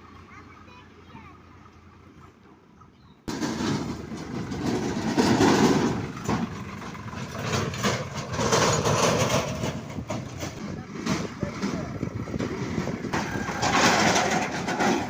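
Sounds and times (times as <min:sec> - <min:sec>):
tractor engines running: 0:00.0 - 0:15.0
tractor trolleys rattling: 0:00.0 - 0:15.0.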